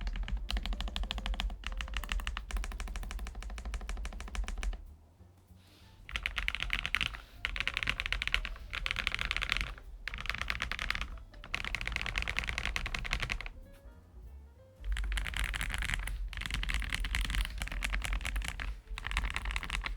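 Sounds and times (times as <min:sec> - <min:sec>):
mechanical keyboard typing: 0:00.0 - 0:04.9, 0:06.0 - 0:13.7, 0:14.8 - 0:19.9.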